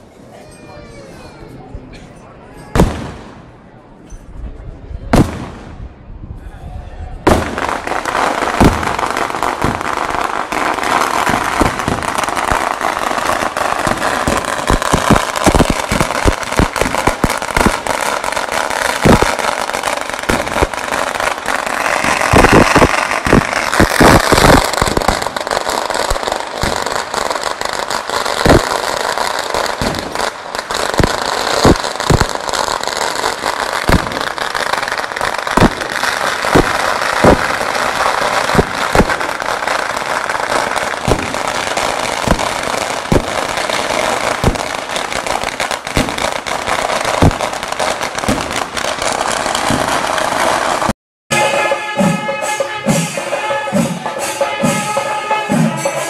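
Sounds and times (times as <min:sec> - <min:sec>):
firecrackers crackling and banging: 0:02.8 - 0:03.6, 0:05.1 - 0:05.8, 0:07.2 - 0:56.0.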